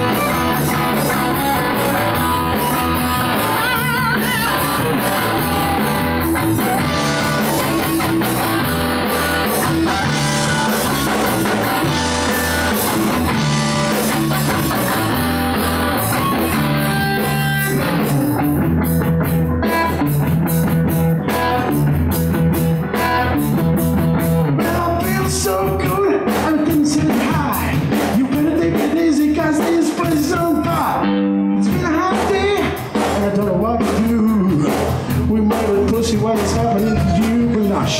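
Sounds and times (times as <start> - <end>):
electric guitar: 0.0 - 37.9
live rock band: 0.0 - 37.9.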